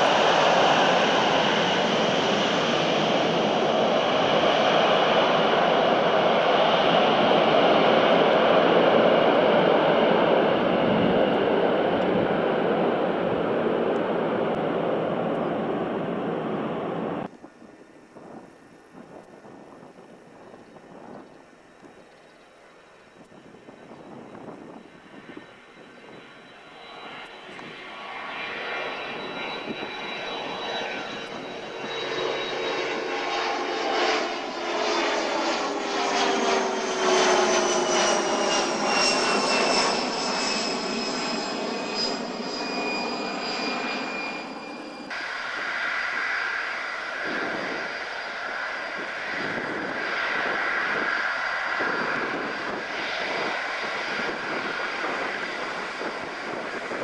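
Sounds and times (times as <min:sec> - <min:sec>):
jet passing overhead: 0:00.0 - 0:17.3, 0:17.9 - 0:57.0
jet engines running on runway: 0:00.0 - 0:57.0.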